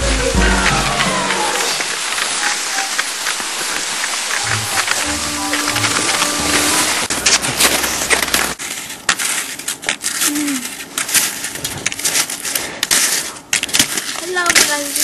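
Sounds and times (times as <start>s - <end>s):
skis crunching on snow: 0.0s - 15.0s
clicks and crackles: 1.0s - 15.0s.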